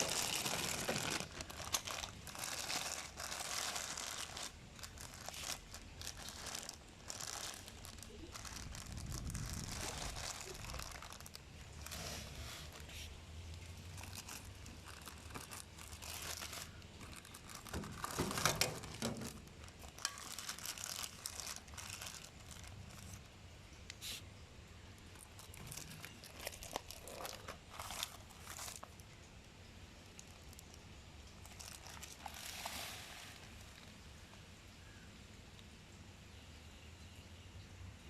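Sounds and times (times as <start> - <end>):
packaging crinkling and tearing: 0.0 - 23.4, 24.9 - 29.2, 30.1 - 34.0.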